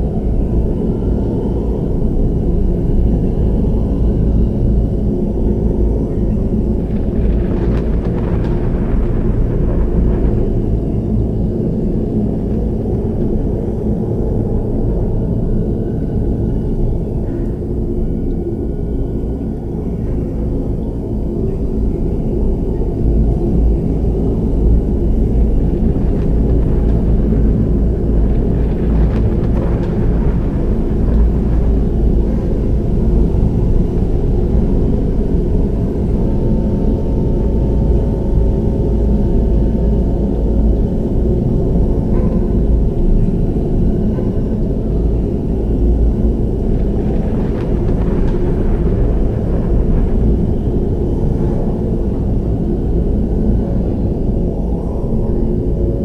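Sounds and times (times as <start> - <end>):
deep ritual music drone: 0.0 - 56.0.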